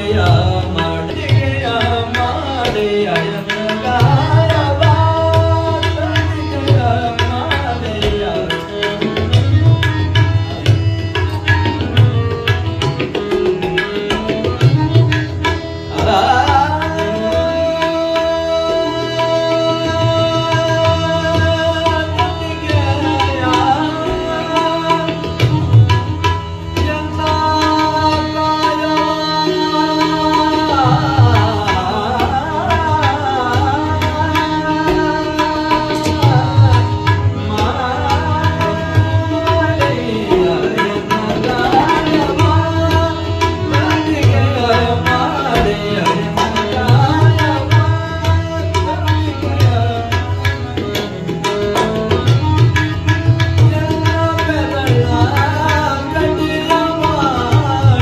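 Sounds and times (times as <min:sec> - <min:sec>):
man singing: 0:00.0 - 0:11.0, 0:11.7 - 0:58.0
harmonium tones: 0:00.0 - 0:58.0
tabla strokes: 0:00.0 - 0:58.0.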